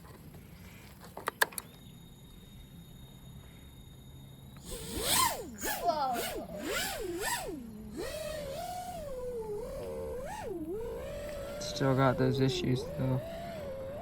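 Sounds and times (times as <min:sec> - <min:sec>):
quadcopter motors whining: 0:01.6 - 0:14.0.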